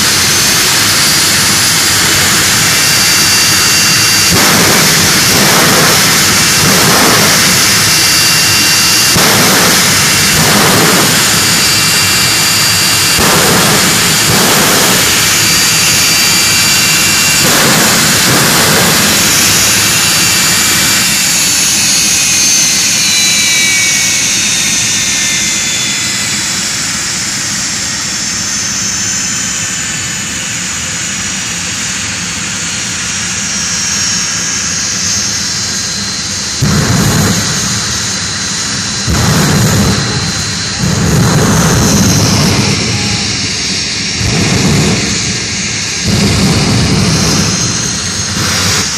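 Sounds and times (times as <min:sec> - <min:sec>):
jet turbine engine roaring: 0:00.0 - 0:48.9.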